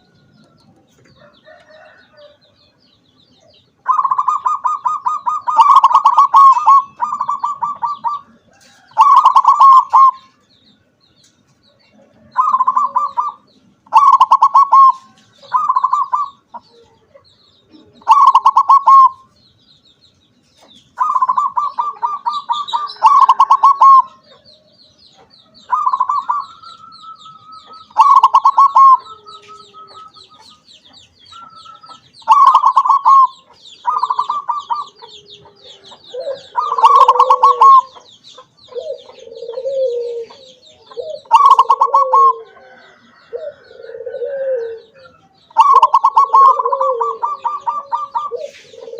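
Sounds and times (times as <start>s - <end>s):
dove cooing: 3.8s - 10.4s, 12.0s - 19.3s, 21.0s - 24.5s, 25.2s - 48.9s.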